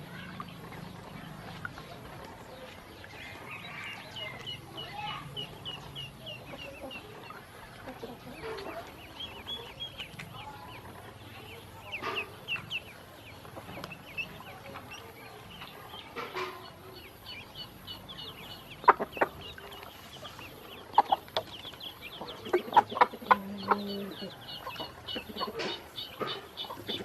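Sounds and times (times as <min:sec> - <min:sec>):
ducklings peeping: 0:00.0 - 0:27.0.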